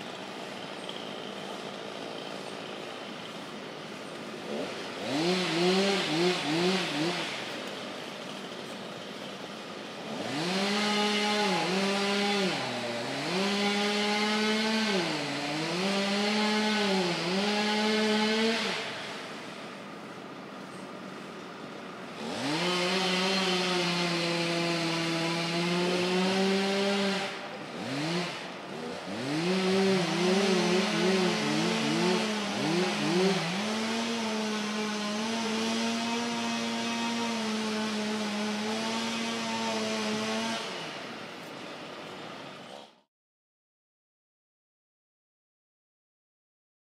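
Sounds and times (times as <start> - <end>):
chainsaw cutting wood: 0.0 - 19.8, 22.1 - 41.3.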